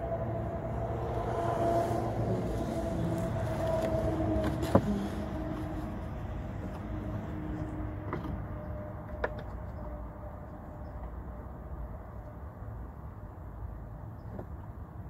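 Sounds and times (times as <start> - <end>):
low rumble with humming tone: 0.0 - 15.0.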